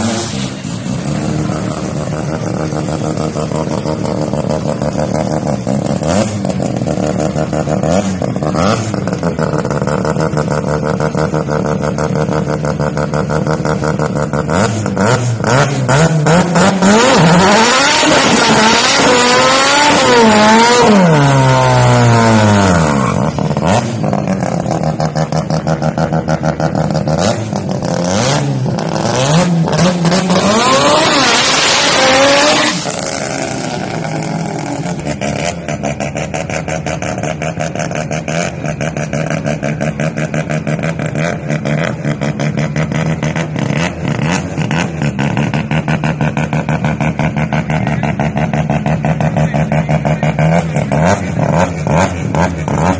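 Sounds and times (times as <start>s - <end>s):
car engine revving high: 0.0s - 52.9s.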